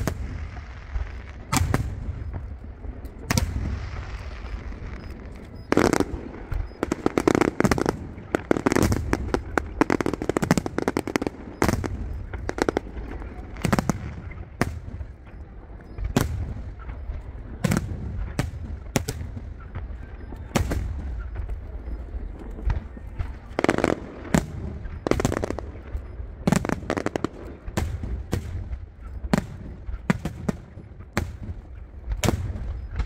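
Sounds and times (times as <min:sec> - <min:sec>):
fireworks booming: 0:00.0 - 0:33.0
steady low rumble: 0:00.0 - 0:33.0.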